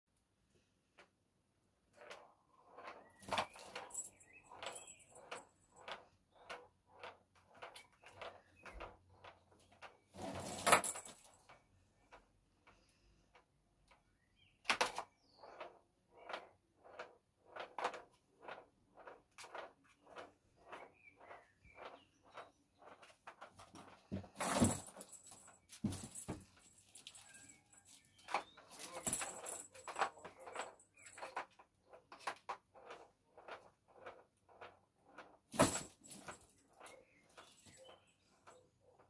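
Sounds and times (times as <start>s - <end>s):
loud toy clatter: 1.9s - 12.2s, 14.6s - 38.6s.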